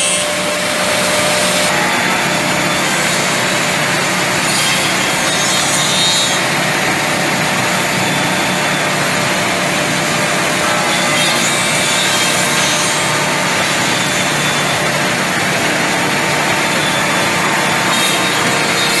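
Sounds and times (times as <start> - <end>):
woodworking machine cutting wood: 0.0 - 19.0.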